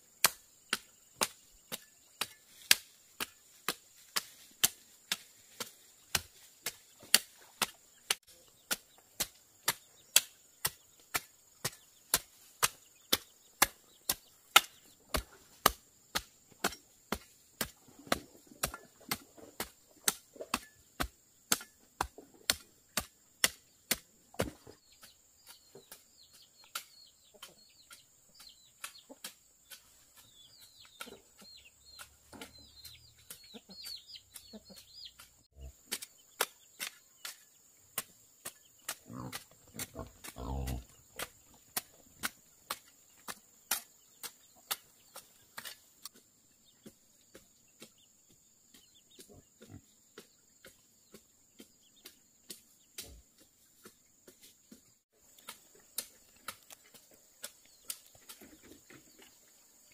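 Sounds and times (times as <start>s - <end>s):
chickens cheeping and clucking: 0.0s - 59.9s.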